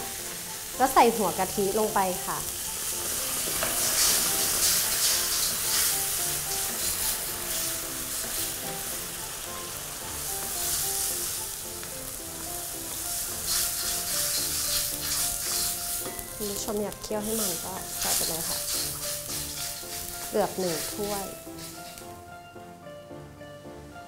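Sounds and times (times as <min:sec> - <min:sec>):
cream sizzling in a wok: 0:00.0 - 0:22.2
soft background music: 0:00.0 - 0:24.0
wooden spatula stirring: 0:02.5 - 0:22.2.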